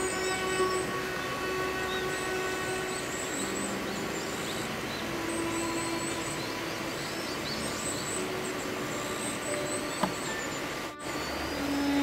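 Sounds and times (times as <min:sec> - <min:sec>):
outdoor hiss: 0:00.0 - 0:12.0
soft background music: 0:00.0 - 0:12.0.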